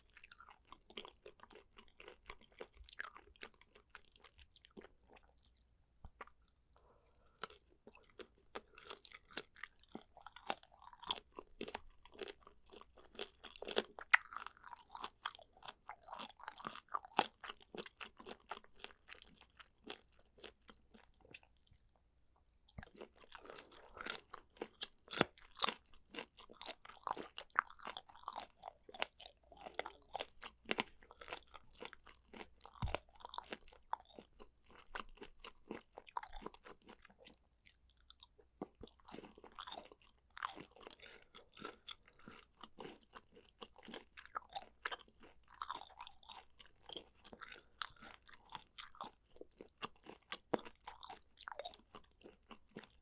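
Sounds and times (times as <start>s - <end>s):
crunchy chewing: 0.0s - 22.0s, 22.7s - 53.0s.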